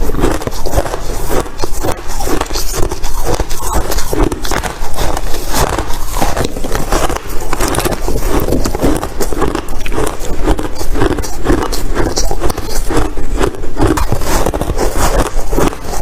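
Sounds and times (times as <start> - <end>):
ice crunching: 0.0 - 16.0.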